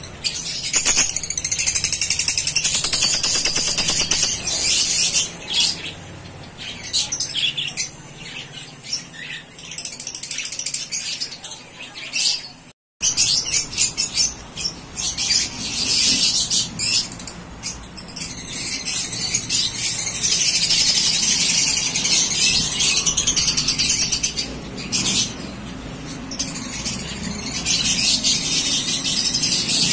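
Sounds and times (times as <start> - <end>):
parrots chirping and squawking: 0.0 - 29.9.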